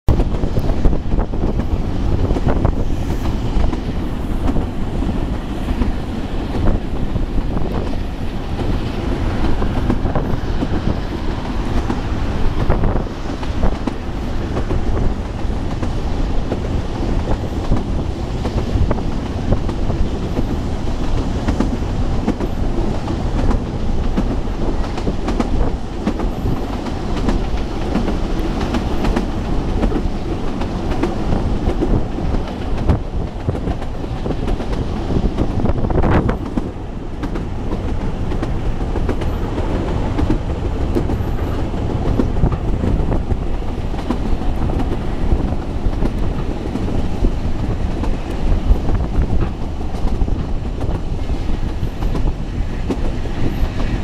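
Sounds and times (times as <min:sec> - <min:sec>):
train carriage rumbling on rails: 0:00.1 - 0:54.0.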